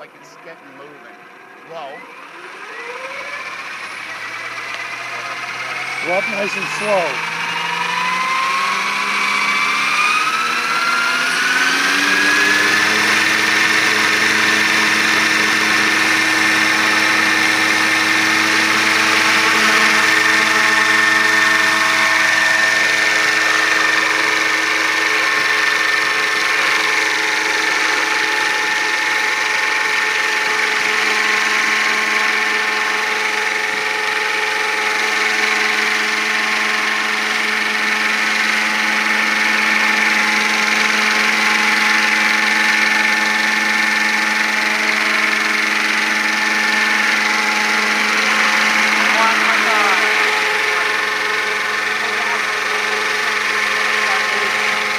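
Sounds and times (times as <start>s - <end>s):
model helicopter rotor whine: 0.0s - 54.9s.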